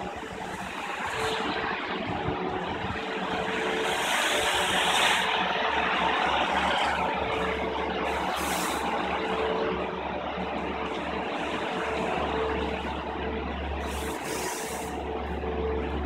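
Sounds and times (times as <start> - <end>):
low machinery hum: 0.0 - 16.0
machinery whine: 0.0 - 16.0.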